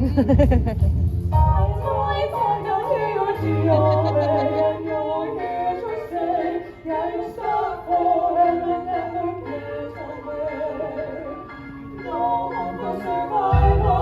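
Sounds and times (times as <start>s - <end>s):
choir singing a cappella: 1.4s - 14.0s.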